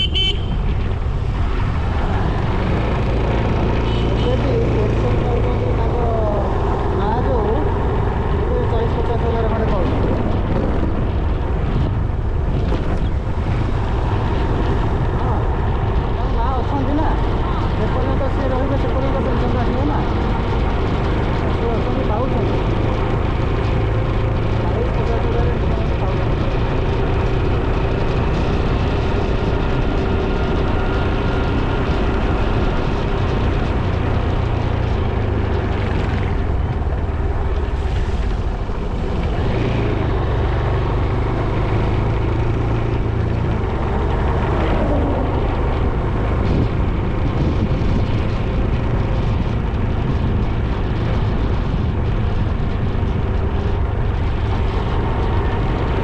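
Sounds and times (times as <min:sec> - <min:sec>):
motorcycle engine drone: 0:00.0 - 0:56.0
wind rumble on microphone: 0:00.0 - 0:56.0.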